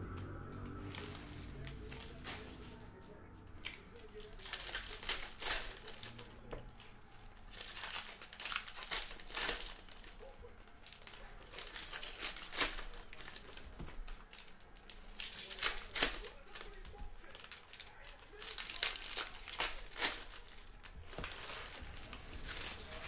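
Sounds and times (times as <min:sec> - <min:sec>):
plastic wrappers crinkling and tearing: 0:00.0 - 0:23.0.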